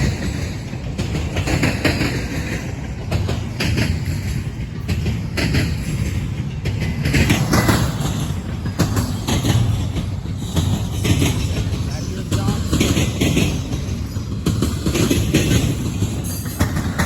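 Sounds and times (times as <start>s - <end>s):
freight train rumble: 0.0s - 17.0s
wheels clacking over rail joints: 0.0s - 17.0s.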